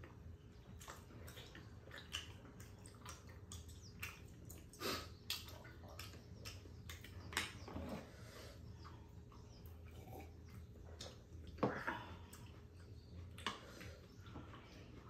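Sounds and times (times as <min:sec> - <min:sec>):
people chewing with mouth smacks: 0:00.0 - 0:15.0.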